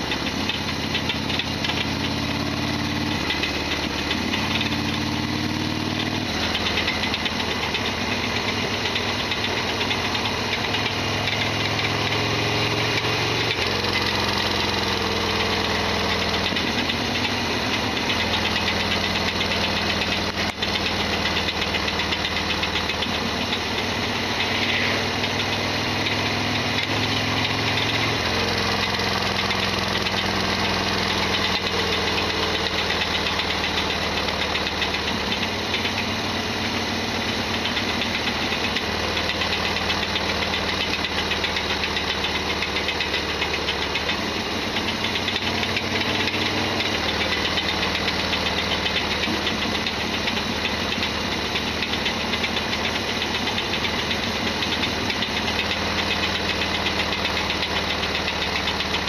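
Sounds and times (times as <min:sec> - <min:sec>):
motorcycle engine running with rattle: 0:00.0 - 0:59.0.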